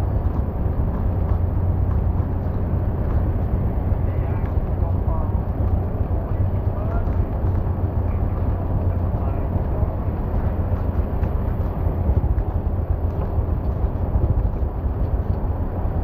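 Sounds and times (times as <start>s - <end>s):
road rumble: 0.0s - 16.0s.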